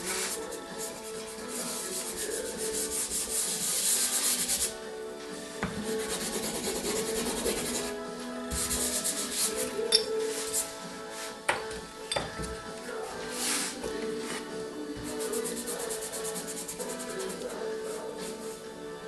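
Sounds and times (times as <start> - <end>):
pastel rubbing on paper: 0.0 - 4.8, 5.8 - 11.4, 13.2 - 18.6.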